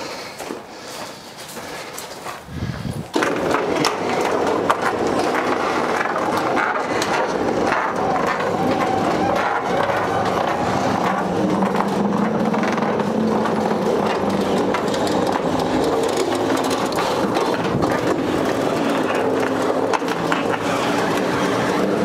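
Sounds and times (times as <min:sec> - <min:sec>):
vehicle rolling on steel deck: 0:03.1 - 0:22.0.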